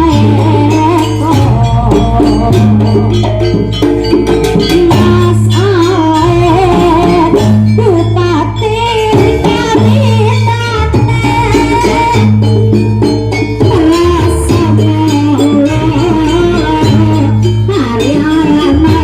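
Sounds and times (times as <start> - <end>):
ornamented melody line: 0.0 - 19.0
percussion strikes: 0.0 - 19.0.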